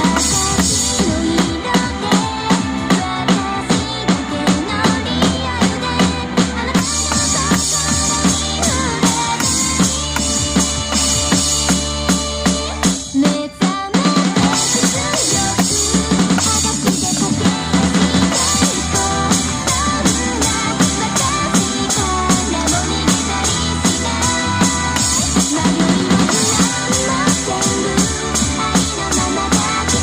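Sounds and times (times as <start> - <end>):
drum kit playing: 0.0 - 30.0
pop song with singing: 0.0 - 30.0.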